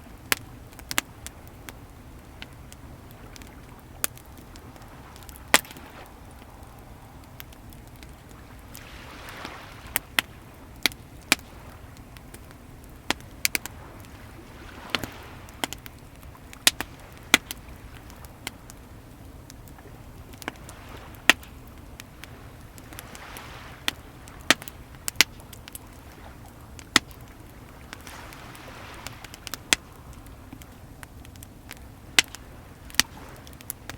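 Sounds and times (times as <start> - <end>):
sea waves rushing: 0.0 - 33.9
wood fire crackling and popping: 0.0 - 33.9.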